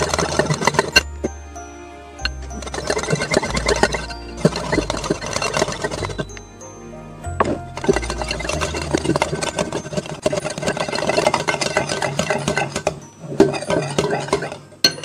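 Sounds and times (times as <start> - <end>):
wire whisk beating liquid in glass bowl: 0.0 - 1.1, 2.2 - 6.4, 7.4 - 15.0.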